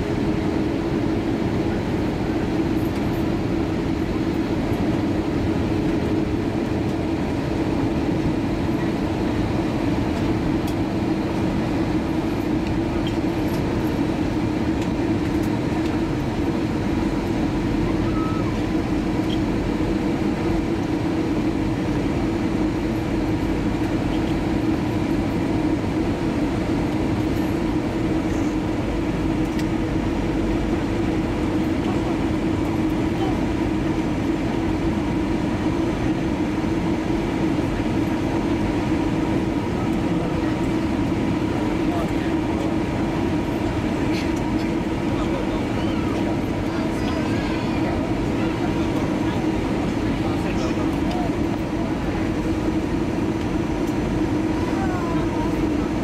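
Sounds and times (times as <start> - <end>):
jet engine hum: 0.0 - 56.0.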